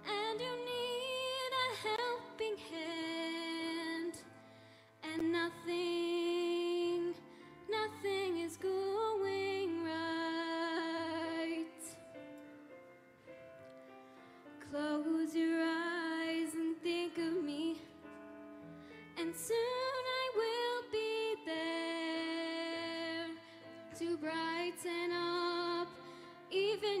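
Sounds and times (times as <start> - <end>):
girl singing into a microphone: 0.0 - 4.3, 5.0 - 12.0, 14.6 - 18.0, 19.2 - 27.0
quiet backing music: 0.0 - 27.0.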